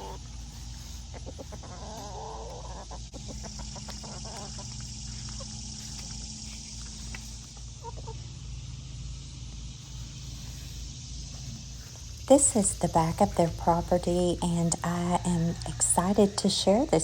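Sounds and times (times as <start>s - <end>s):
chickens clucking: 0.0s - 9.3s, 11.6s - 17.0s
steady high hiss: 3.1s - 17.0s.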